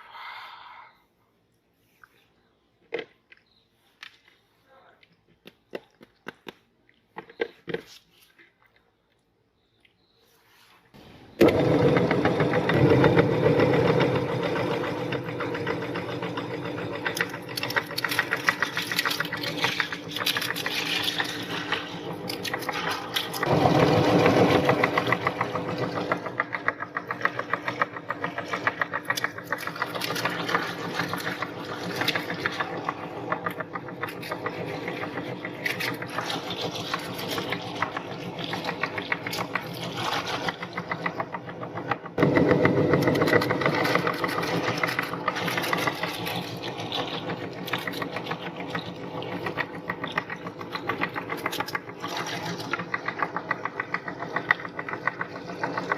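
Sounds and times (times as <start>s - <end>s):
meat grinder grinding: 11.0s - 55.9s.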